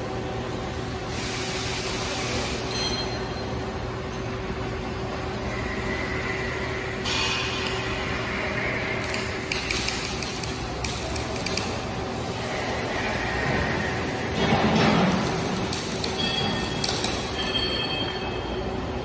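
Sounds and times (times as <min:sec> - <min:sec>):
constant hum: 0:02.0 - 0:19.0.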